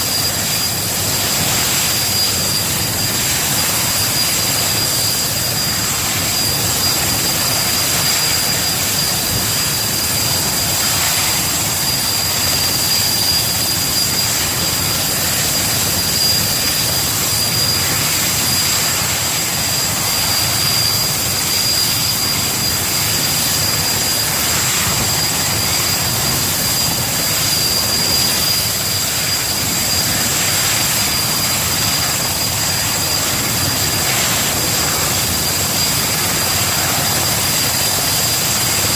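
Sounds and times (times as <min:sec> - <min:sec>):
helicopter engines whining: 0:00.0 - 0:38.9.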